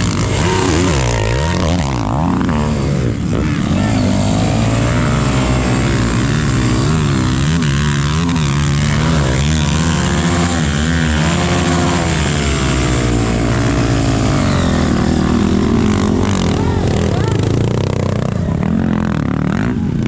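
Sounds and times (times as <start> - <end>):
off-road engines revving: 0.0 - 20.0.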